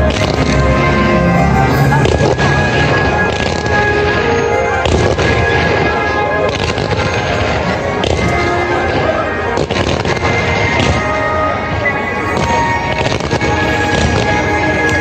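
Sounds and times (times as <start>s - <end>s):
fireworks bangs and crackles: 0.0s - 15.0s
music: 0.0s - 15.0s.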